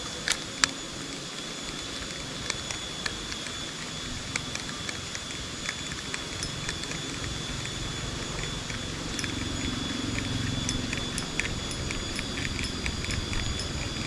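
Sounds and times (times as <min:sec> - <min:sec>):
high-pitched insect buzz: 0:00.0 - 0:14.0
sharp clicks and crackles: 0:00.0 - 0:14.0.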